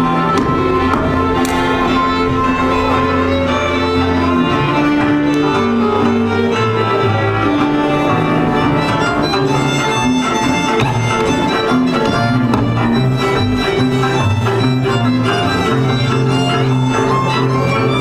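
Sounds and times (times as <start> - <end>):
bowed bass line: 0.0 - 18.0
fiddle melody: 0.0 - 18.0.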